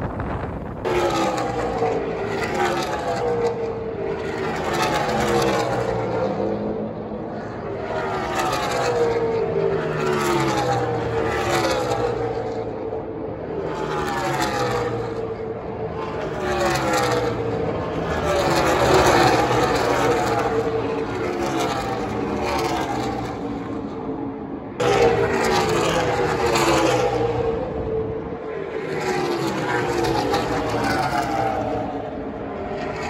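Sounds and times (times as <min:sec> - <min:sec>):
race car engines passing: 0:00.0 - 0:33.0.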